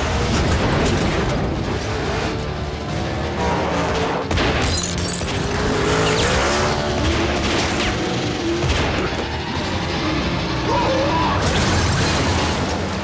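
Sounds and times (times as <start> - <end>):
dramatic music score: 0.0 - 13.0.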